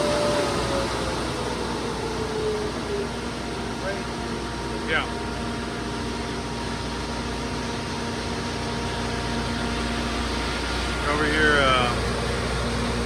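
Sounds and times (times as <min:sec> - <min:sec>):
air-conditioning unit running: 0:00.0 - 0:13.0.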